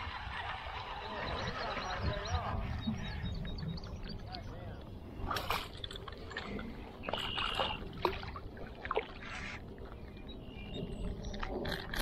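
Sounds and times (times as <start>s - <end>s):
water splashing and sloshing: 1.5s - 12.0s.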